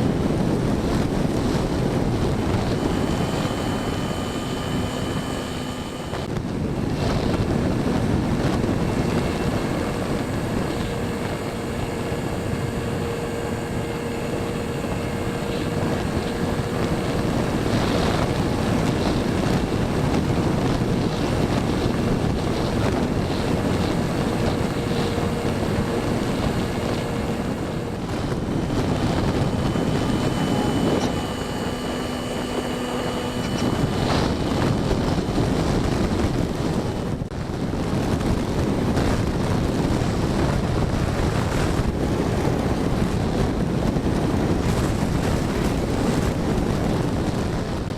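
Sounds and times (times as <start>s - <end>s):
electric motor and propeller whine: 0.0s - 47.9s
wind rushing over microphone: 0.0s - 47.9s.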